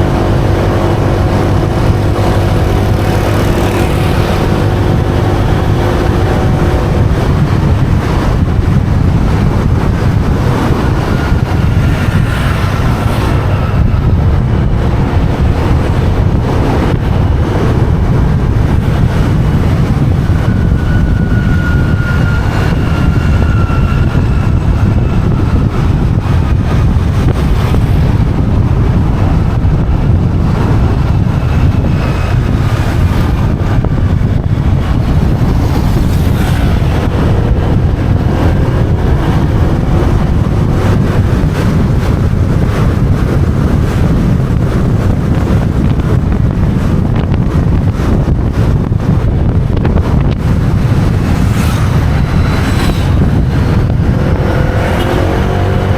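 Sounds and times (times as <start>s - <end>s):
motorbike engine running: 0.0s - 55.9s
road noise: 0.0s - 55.9s
wind buffeting microphone: 0.0s - 55.9s.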